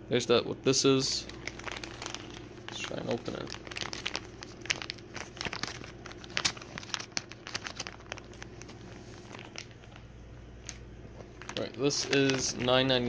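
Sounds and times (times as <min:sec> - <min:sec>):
packaging crinkling and tearing: 0:01.2 - 0:13.0.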